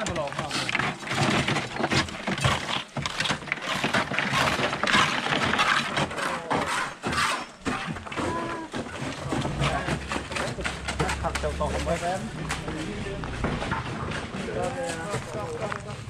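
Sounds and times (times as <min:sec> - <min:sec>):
trowel scraping gritty concrete: 0:00.0 - 0:16.0.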